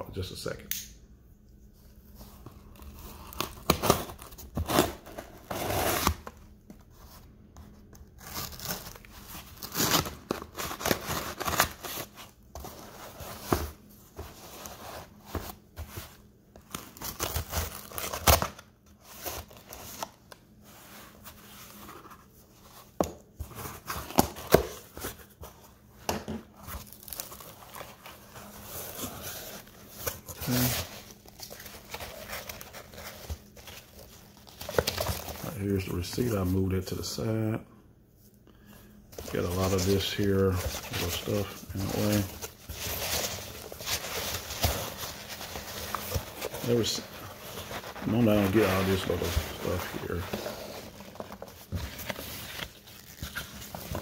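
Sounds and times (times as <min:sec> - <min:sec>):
cardboard scraping and crinkling: 0:02.2 - 0:25.7, 0:26.4 - 0:36.6, 0:39.2 - 0:54.0.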